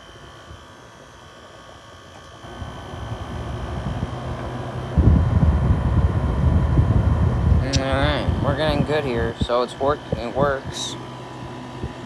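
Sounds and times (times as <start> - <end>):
air conditioner fan rushing: 0.0 - 12.0.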